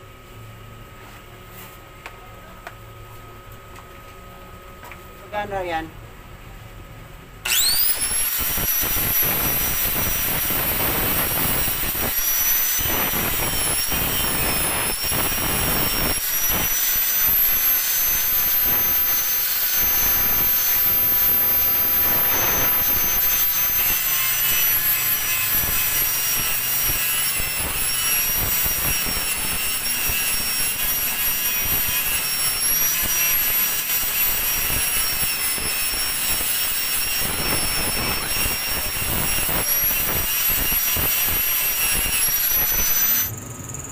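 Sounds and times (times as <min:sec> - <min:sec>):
angle grinder whining: 0:07.4 - 0:43.4
grinding on metal: 0:07.5 - 0:43.3.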